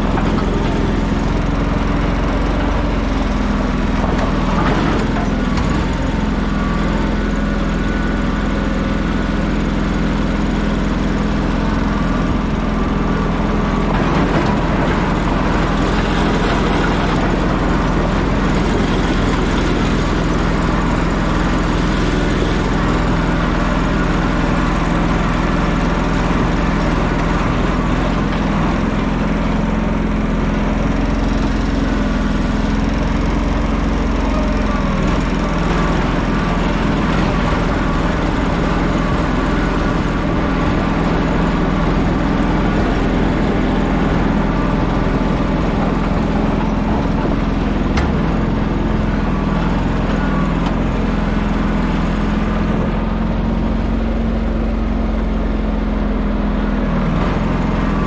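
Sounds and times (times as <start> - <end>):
engine humming: 0.0 - 58.0.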